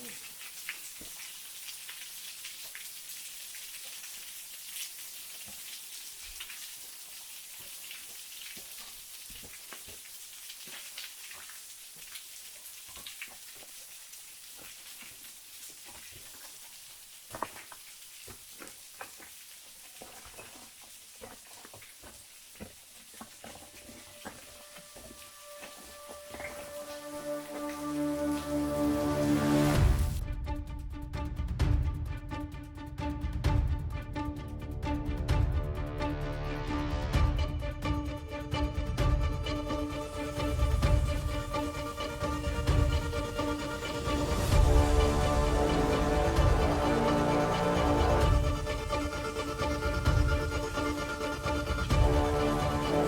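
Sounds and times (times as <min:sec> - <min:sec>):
falling water hissing: 0:00.0 - 0:30.2, 0:39.8 - 0:53.0
water drips and taps: 0:00.0 - 0:30.2, 0:39.5 - 0:53.0.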